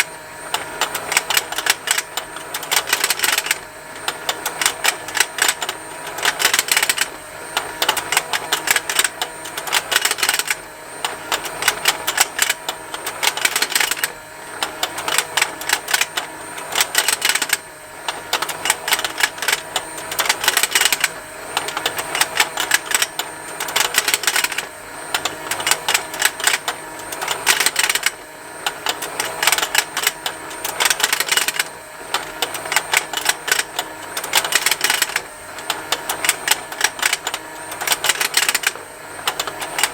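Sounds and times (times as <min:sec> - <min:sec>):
motor hum: 0:00.0 - 0:39.9
toy mechanism ticking: 0:00.6 - 0:39.9.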